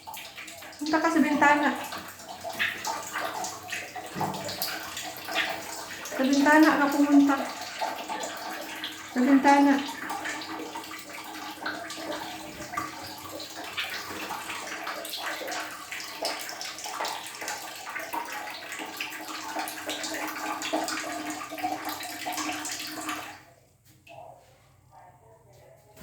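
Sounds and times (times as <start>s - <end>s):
water running and splashing: 0.0s - 23.4s.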